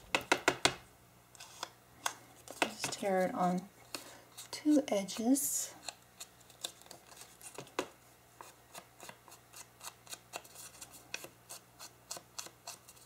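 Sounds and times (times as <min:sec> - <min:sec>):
ink pad tapping and scraping paper: 0:02.4 - 0:13.0.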